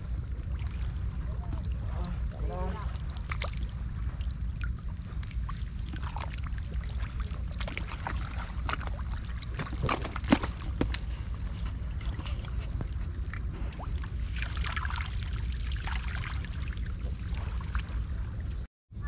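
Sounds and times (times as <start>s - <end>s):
steady low rumble: 0.0s - 19.0s
water splashing and dripping: 0.2s - 10.7s, 13.1s - 18.7s.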